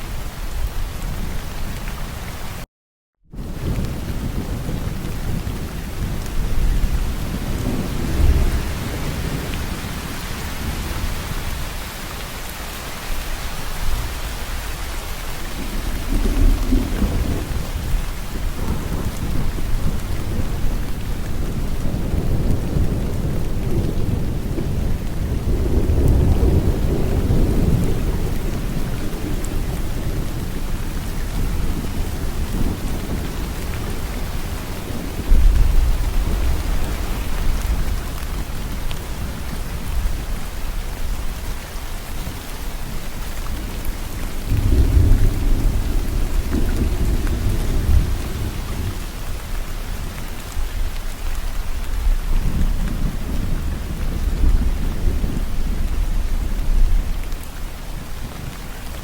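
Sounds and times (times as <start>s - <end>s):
heavy rain falling: 0.0s - 2.7s, 3.3s - 59.0s
deep rolling thunder: 3.3s - 11.8s, 15.0s - 41.5s, 42.8s - 58.7s.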